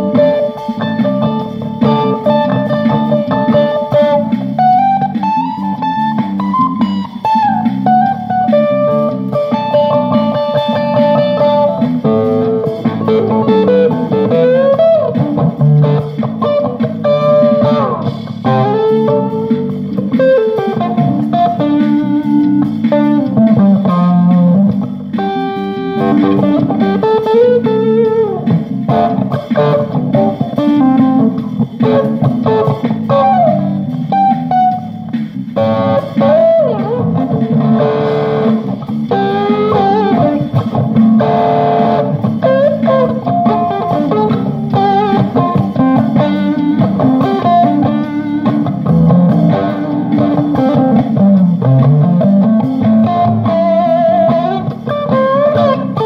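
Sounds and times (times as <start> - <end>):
guitar lead with string bends: 0.0 - 56.0
low guitar accompaniment: 0.0 - 56.0.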